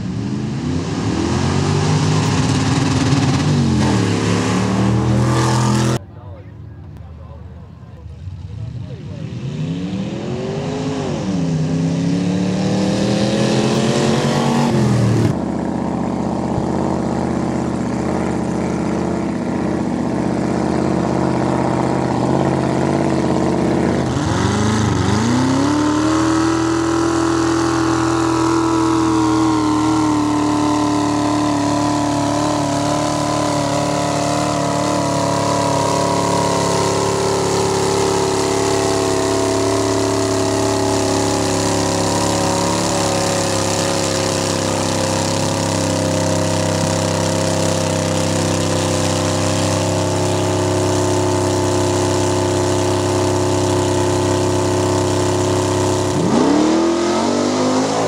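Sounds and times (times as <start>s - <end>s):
car engine revving in mud: 0.0s - 6.0s, 8.5s - 58.0s
race engine accelerating: 0.0s - 58.0s.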